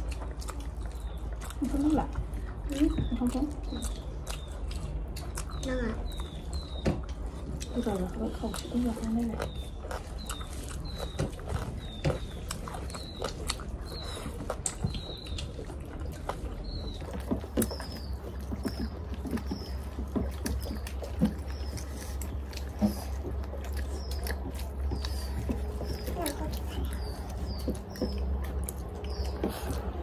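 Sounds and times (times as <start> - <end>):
wet chewing and mouth clicks: 0.0 - 30.0
bird chirping: 2.7 - 30.0.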